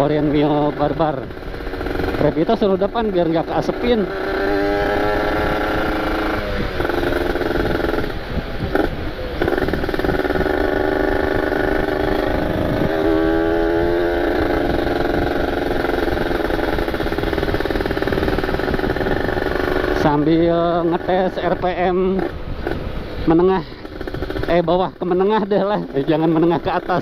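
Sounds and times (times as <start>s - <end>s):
two-stroke motorcycle engine running: 0.0s - 27.0s.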